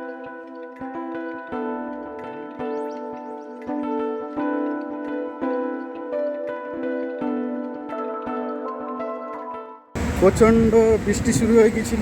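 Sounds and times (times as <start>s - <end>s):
soft background music: 0.0s - 11.4s.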